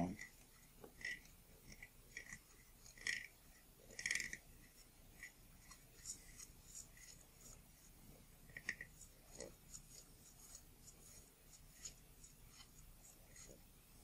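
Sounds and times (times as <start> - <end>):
small irregular clicks: 0.0 - 7.2, 8.5 - 13.6
scratchy rubbing on lens: 0.0 - 14.0.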